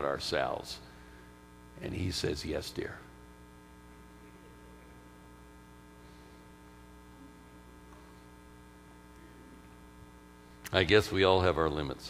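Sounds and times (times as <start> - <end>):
faint buzzy mains hum: 0.0 - 12.0.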